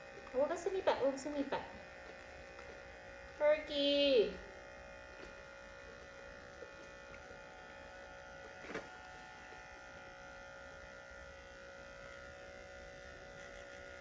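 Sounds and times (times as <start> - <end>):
faint electrical buzz: 0.0 - 14.0.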